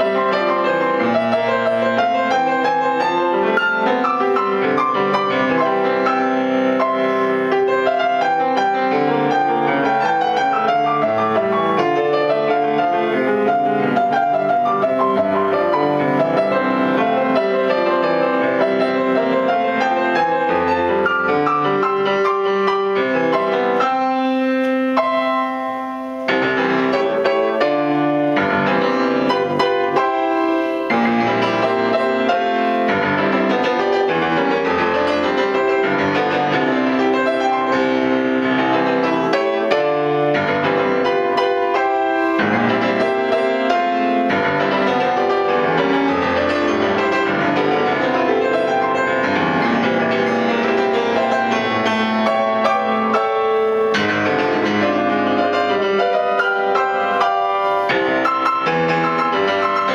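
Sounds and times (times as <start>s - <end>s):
grand piano playing: 0.0s - 59.9s.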